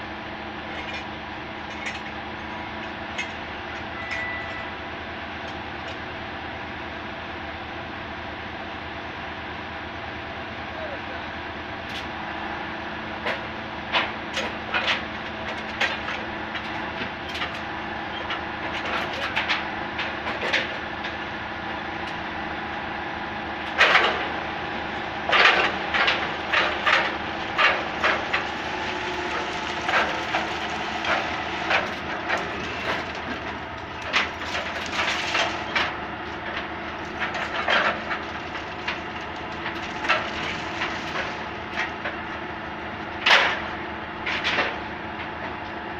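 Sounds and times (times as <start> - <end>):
heavy machinery running: 0.0 - 45.9.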